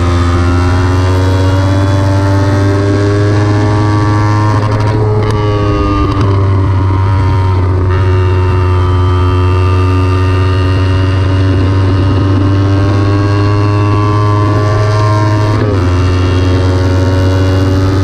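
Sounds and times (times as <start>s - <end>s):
motorcycle engine at high revs: 0.0s - 18.0s.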